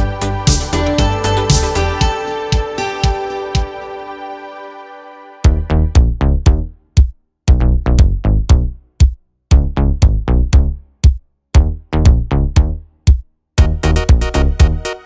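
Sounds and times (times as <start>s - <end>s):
electronic drum machine beat: 0.0s - 3.9s, 5.4s - 15.0s.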